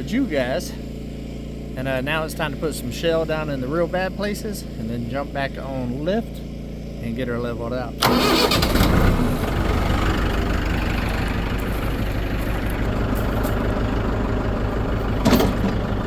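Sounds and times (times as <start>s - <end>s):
tractor engine idling: 0.0s - 7.2s, 7.8s - 16.0s.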